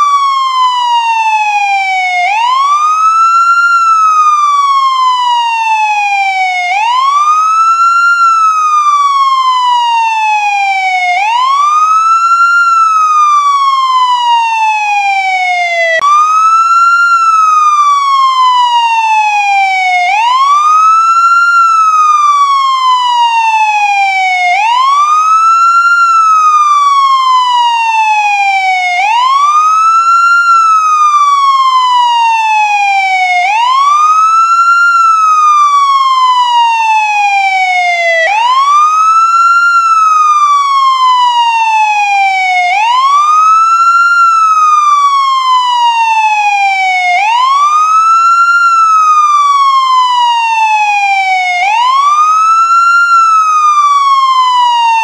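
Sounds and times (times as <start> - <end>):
police siren wailing: 0.0 - 55.0.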